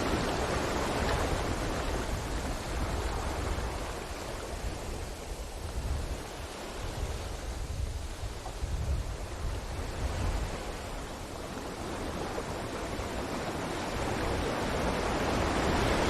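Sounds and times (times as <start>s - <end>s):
low rumble of surf: 0.0s - 16.0s
ocean waves breaking on beach: 0.0s - 16.0s.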